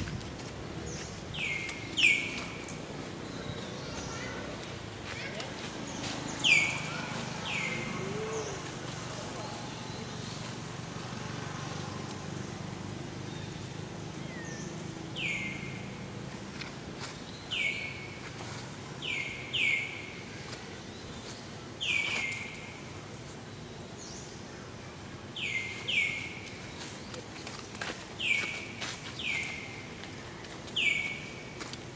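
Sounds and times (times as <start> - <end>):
low background noise: 0.0 - 31.9.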